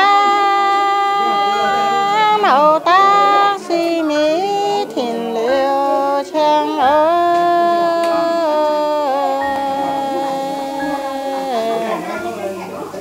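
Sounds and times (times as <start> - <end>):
woman singing: 0.0 - 12.4.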